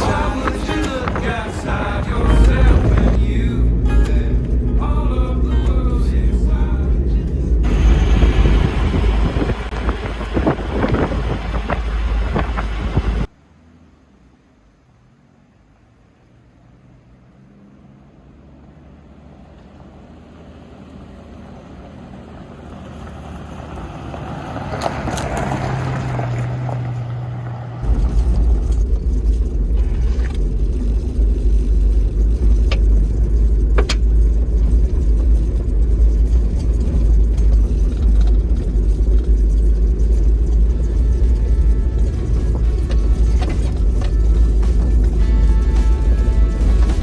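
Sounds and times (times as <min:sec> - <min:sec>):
low rumble of driving: 0:00.0 - 0:47.0
vehicle engine and tyre noise: 0:00.0 - 0:47.0.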